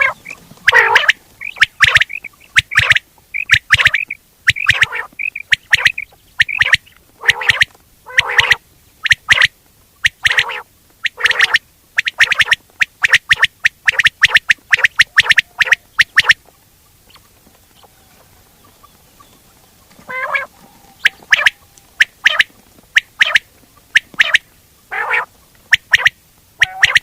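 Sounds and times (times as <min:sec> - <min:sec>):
quail calls: 0:00.0 - 0:27.0.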